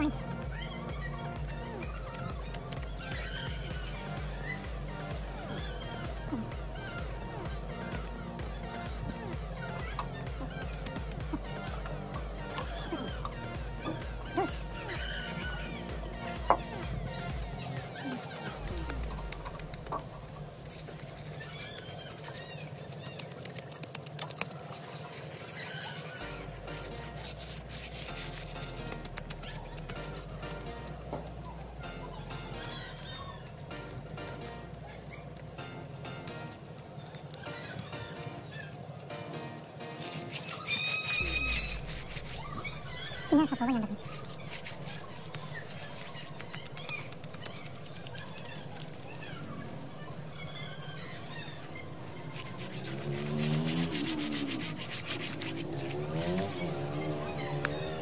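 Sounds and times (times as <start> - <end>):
birds chirping: 0.0 - 58.0
wet mud squelching: 0.0 - 58.0.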